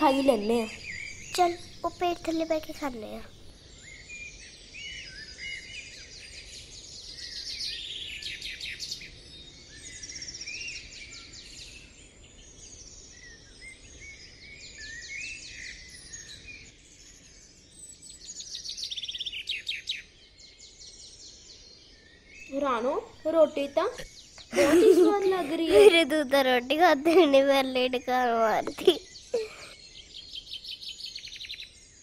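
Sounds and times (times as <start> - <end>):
faint background hiss: 0.0 - 31.8
birds chirping and trilling: 0.0 - 32.0.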